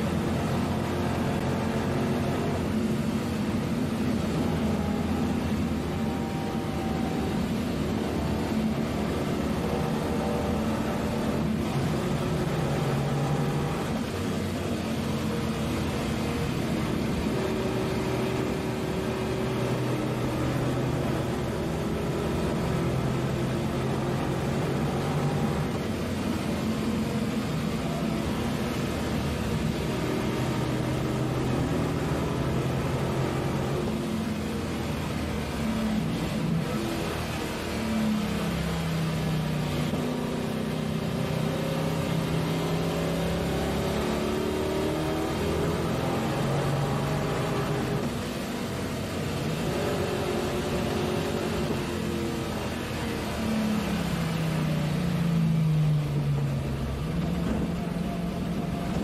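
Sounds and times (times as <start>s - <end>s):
race car engine under load: 0.0s - 59.0s.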